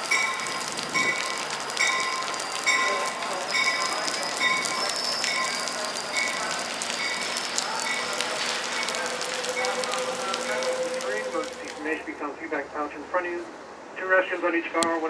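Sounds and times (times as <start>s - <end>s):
train bell ringing: 0.0s - 12.3s
steady hiss: 0.0s - 15.0s.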